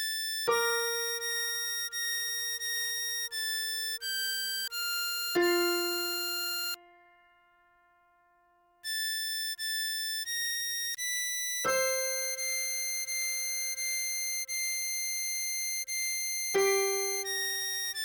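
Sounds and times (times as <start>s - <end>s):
synthetic harmonica-like melody: 0.0s - 7.3s, 8.8s - 18.0s.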